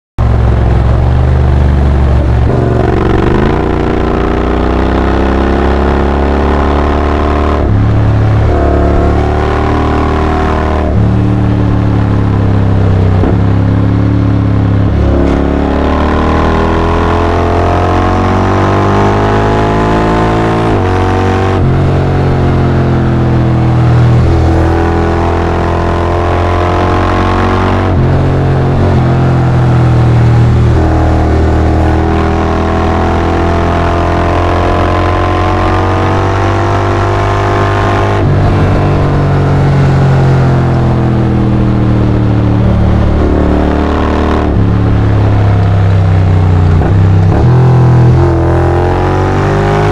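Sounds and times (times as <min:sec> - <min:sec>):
motorcycle engine accelerating: 0:00.2 - 0:49.9.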